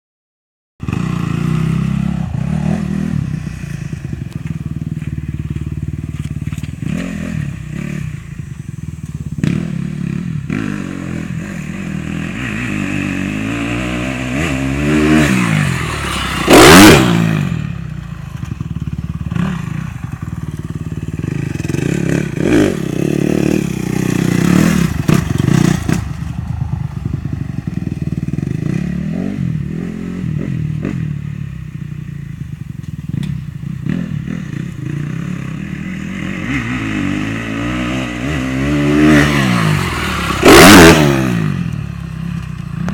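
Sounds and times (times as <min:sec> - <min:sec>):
dirt bike engine revving: 0:00.8 - 0:32.0, 0:33.0 - 0:42.9.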